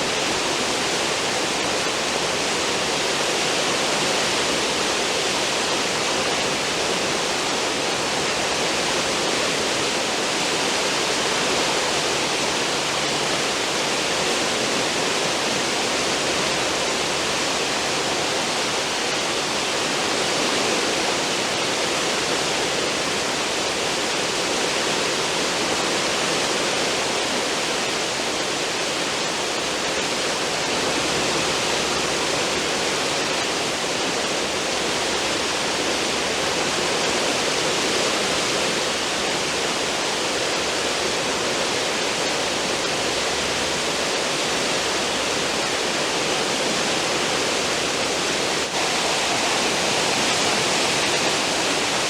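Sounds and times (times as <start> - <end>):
sea water rushing and foaming: 0.0 - 52.0.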